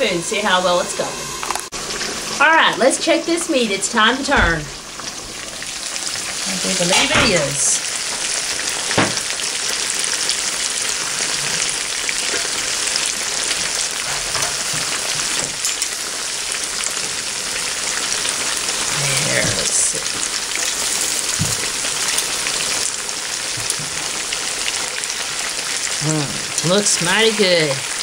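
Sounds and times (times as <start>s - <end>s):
steak sizzling in oil: 0.0s - 28.0s.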